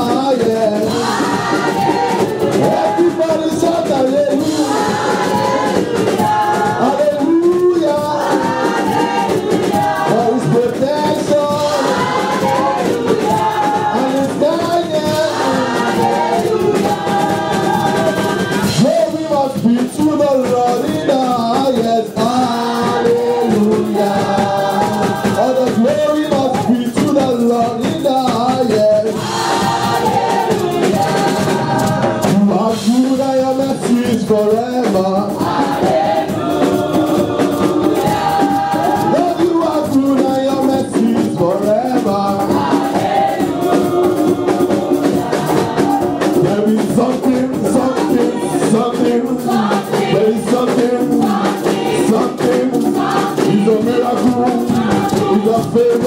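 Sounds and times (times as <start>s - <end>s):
group singing praise song: 0.0s - 56.0s
live band accompaniment: 0.0s - 56.0s.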